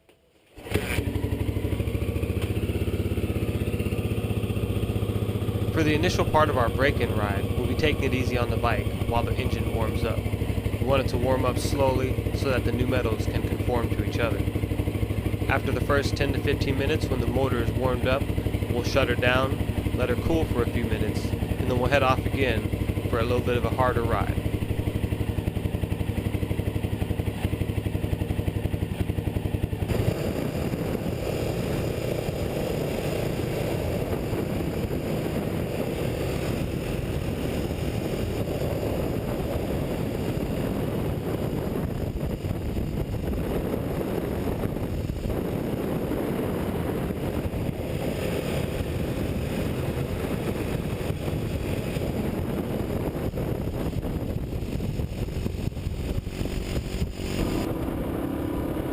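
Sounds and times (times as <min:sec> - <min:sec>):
motorcycle engine running: 0:00.2 - 0:58.9.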